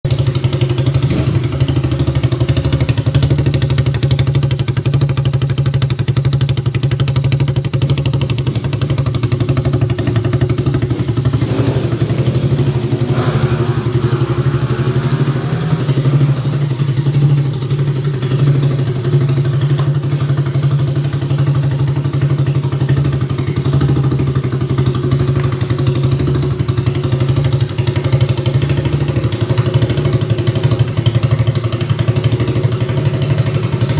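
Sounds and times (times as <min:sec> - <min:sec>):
quad bike engine idling: 0:00.1 - 0:33.9.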